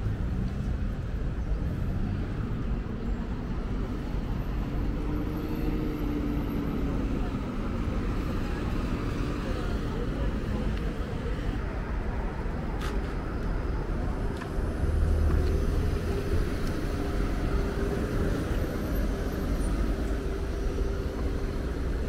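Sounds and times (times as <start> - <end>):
low urban rumble: 0.0 - 22.0.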